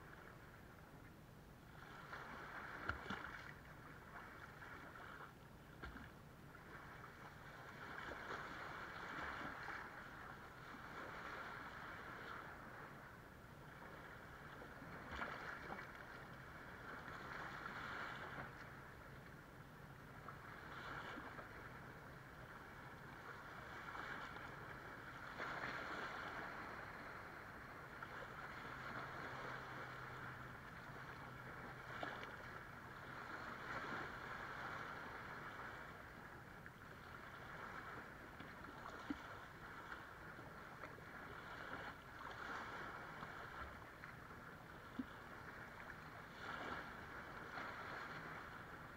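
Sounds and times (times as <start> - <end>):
distant boat motor hum: 0.0 - 48.9
small waves washing on sand: 1.7 - 19.1, 20.1 - 48.9.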